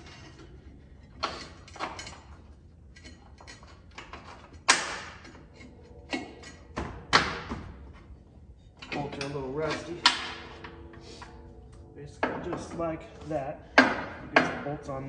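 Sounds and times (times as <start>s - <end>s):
metal clanking on steel frame: 0.0s - 15.0s.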